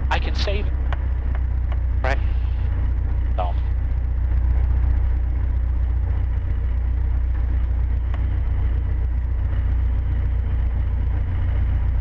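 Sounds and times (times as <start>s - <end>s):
small plane engine drone: 0.0s - 12.0s.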